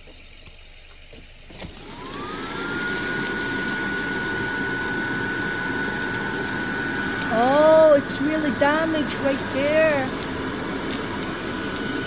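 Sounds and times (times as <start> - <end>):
blower fan whining: 0.0 - 12.0.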